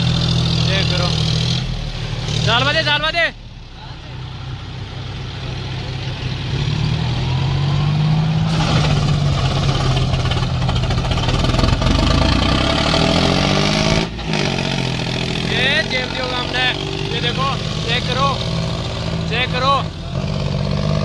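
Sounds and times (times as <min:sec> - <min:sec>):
tractor diesel engines under load: 0:00.0 - 0:21.0.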